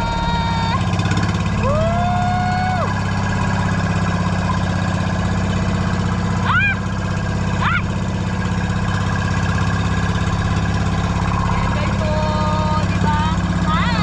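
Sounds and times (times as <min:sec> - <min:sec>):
boat engine throbbing: 0:00.0 - 0:14.0.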